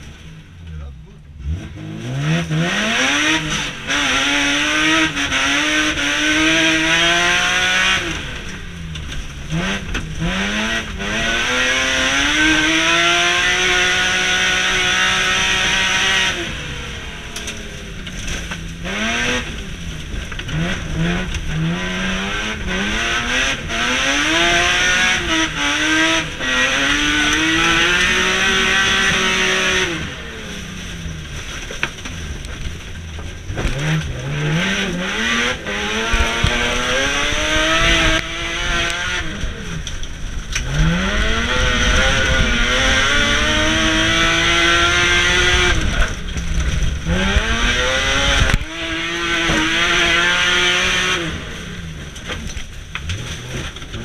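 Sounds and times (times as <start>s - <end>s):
car engine revving at full throttle: 0.0s - 54.0s.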